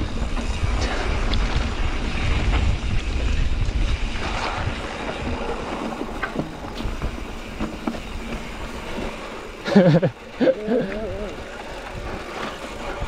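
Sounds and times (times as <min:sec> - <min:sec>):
wind buffeting microphone: 0:00.0 - 0:09.3, 0:10.8 - 0:13.0
bike clicks and rattles: 0:00.0 - 0:13.0.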